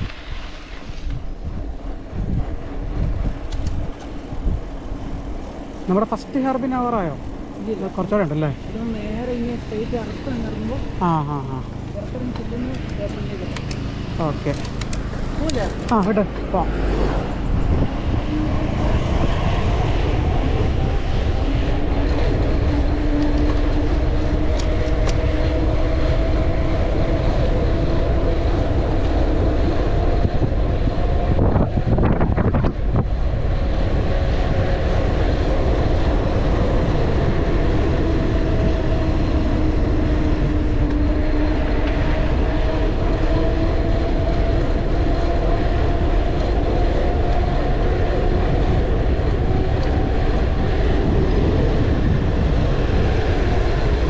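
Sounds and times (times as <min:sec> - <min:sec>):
tyres humming on road: 0:00.0 - 0:54.0
wind buffeting microphone: 0:00.0 - 0:54.0.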